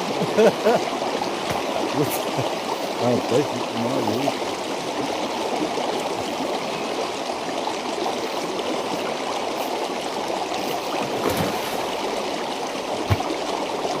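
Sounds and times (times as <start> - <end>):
flowing water rushing: 0.0 - 14.0.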